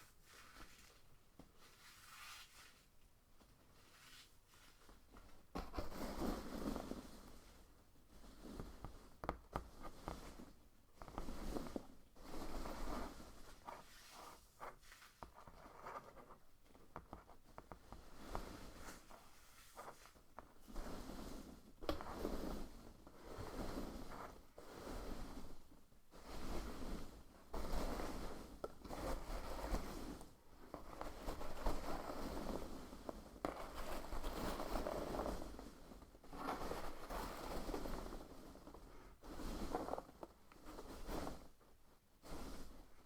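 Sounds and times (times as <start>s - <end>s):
soft scraping and rustling: 0.0s - 43.0s.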